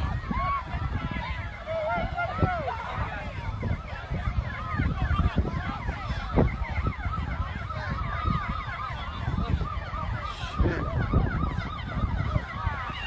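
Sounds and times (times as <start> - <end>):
emergency sirens yelping: 0.0 - 13.0.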